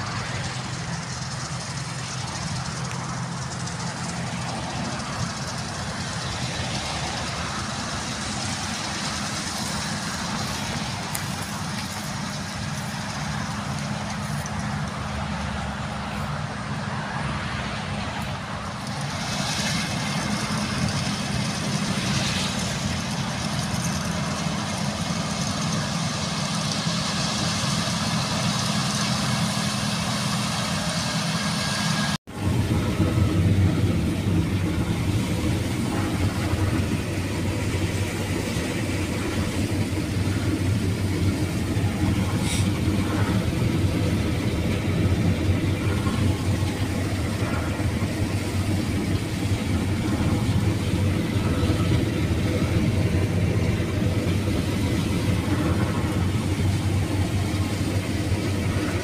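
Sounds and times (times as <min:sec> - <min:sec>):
constant low hum: 0:00.0 - 0:59.0
tractor and combine engines: 0:00.0 - 0:59.0.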